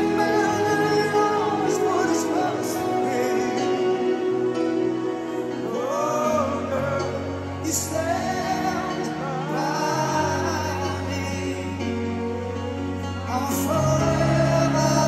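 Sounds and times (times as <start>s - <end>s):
keyboard chords: 0.0s - 15.0s
male lead vocal: 0.0s - 15.0s.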